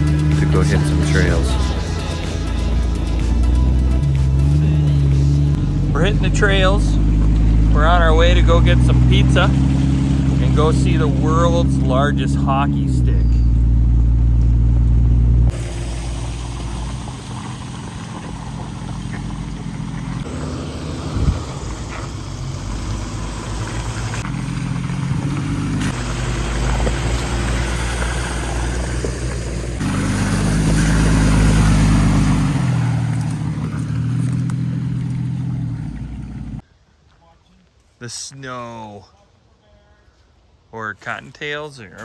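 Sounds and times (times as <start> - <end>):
vehicle engine running: 0.0 - 36.6
road noise: 0.0 - 37.1.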